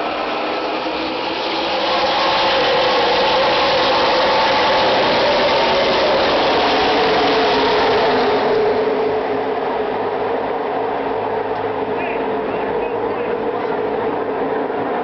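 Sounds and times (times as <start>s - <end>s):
race truck engines accelerating: 0.0s - 15.0s.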